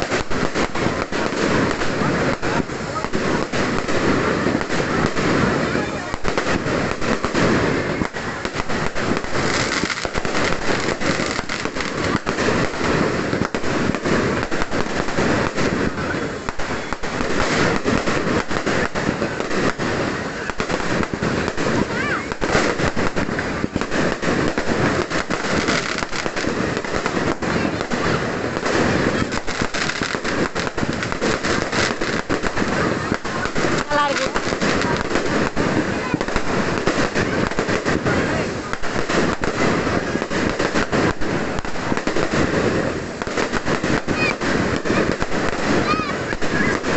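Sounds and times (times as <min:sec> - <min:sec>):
fireworks crackling with rapid bangs: 0:00.0 - 0:46.9.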